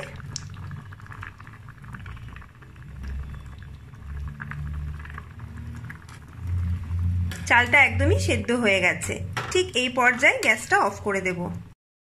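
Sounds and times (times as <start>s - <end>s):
gas burner low rumble: 0.0s - 11.6s
pot simmering with faint bubbling: 0.0s - 11.8s.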